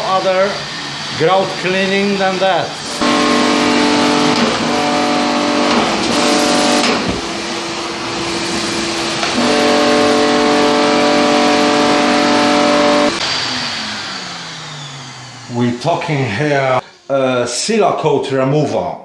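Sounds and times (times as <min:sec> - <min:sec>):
extraction machine motor whine: 0:00.0 - 0:17.3.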